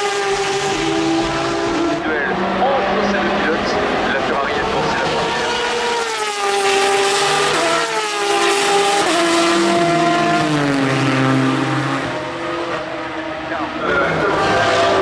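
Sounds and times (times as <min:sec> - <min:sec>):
race cars braking and downshifting: 0:00.0 - 0:15.0.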